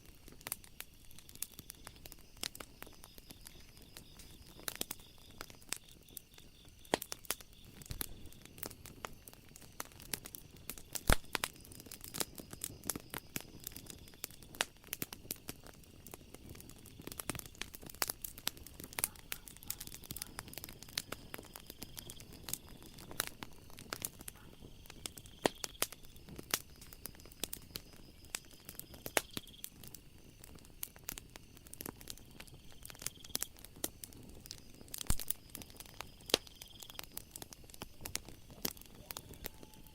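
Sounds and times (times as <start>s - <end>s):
night insects trilling: 0.0s - 39.9s
wood fire crackling: 0.0s - 39.9s.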